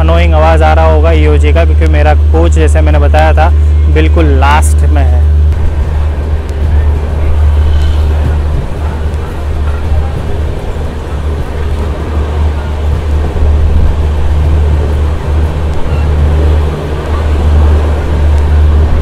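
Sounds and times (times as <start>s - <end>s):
diesel generator drone: 0.0s - 19.0s.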